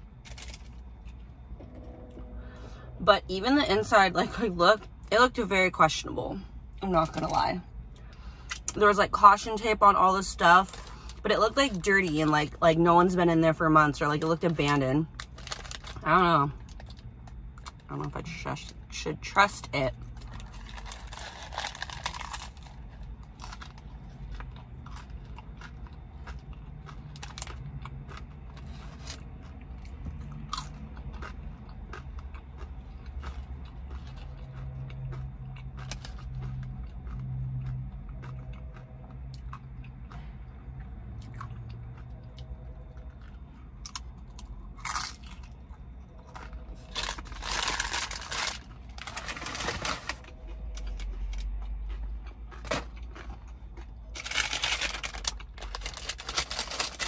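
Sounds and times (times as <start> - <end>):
chewing crispy food: 0.0 - 1.4, 10.0 - 18.8, 19.6 - 57.0.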